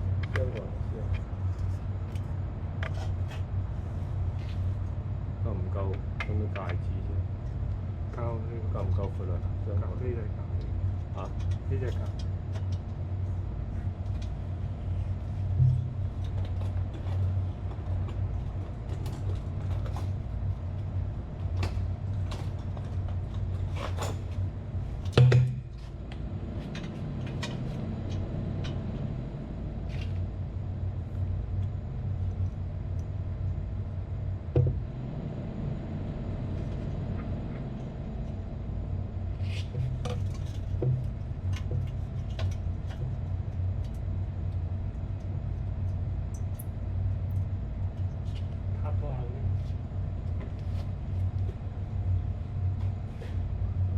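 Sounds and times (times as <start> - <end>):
low machinery hum: 0.0 - 53.9.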